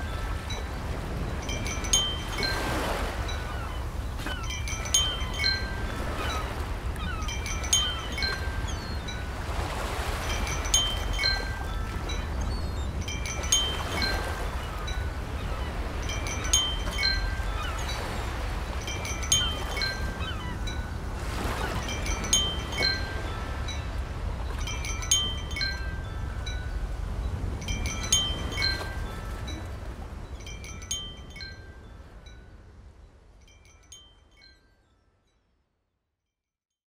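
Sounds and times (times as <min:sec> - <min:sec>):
chimes ringing: 0:00.0 - 0:32.5.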